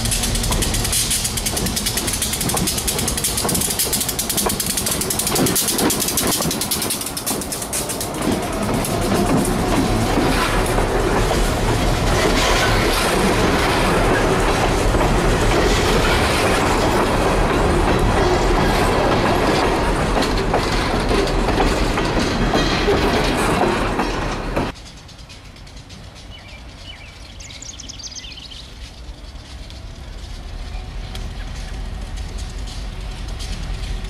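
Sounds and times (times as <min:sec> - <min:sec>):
freight cars rolling past: 0:00.0 - 0:34.0
wheels clicking over rail joints: 0:00.0 - 0:34.0.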